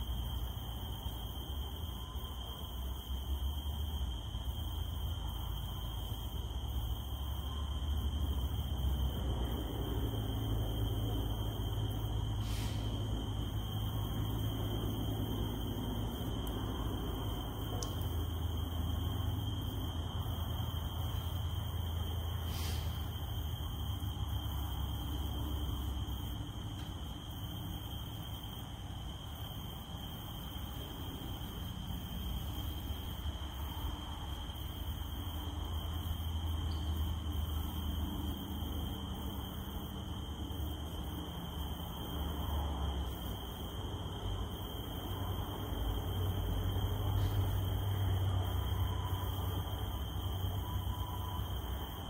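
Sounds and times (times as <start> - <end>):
cicadas droning: 0.0 - 52.0.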